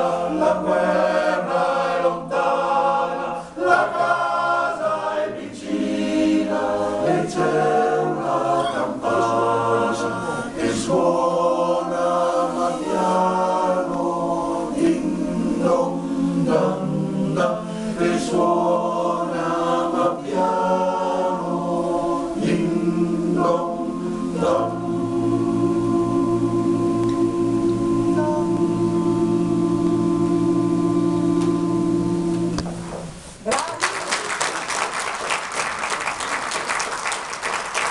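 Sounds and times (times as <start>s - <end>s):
male choir singing: 0.0s - 32.5s.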